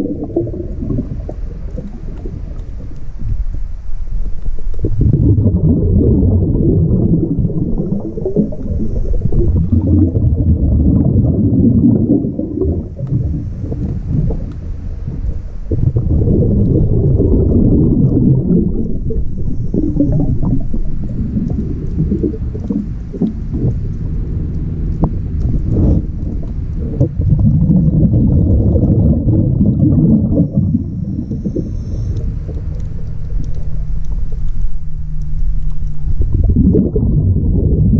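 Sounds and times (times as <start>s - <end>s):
underwater bubbling and gurgling: 0.0s - 37.9s.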